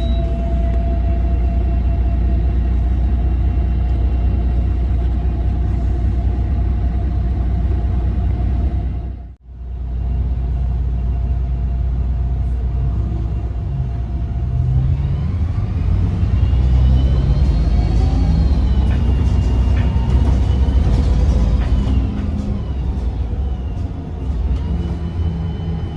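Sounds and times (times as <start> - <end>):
diesel bus engine rumbling: 0.0 - 25.9.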